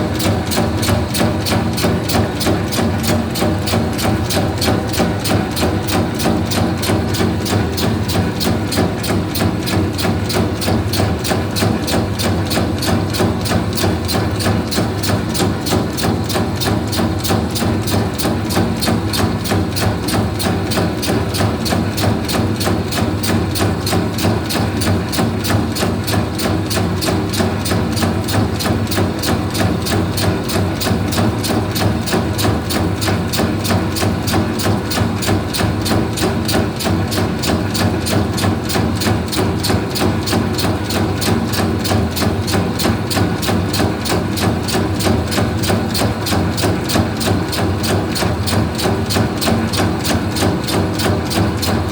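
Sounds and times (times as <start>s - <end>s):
fast mechanical knocking: 0.0s - 51.9s.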